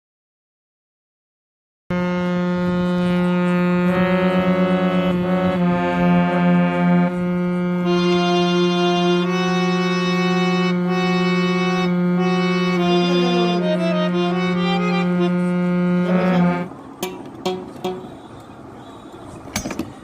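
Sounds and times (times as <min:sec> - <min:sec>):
harmonium playing: 0:01.9 - 0:18.3.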